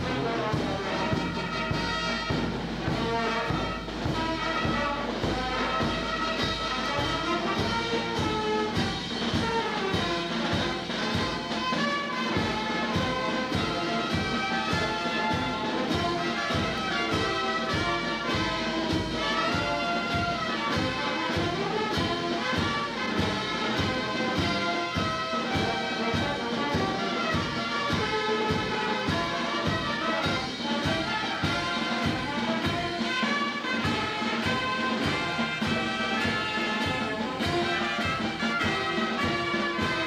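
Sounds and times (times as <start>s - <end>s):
bass drum beat: 0.0s - 40.0s
brass instruments playing: 0.0s - 40.0s.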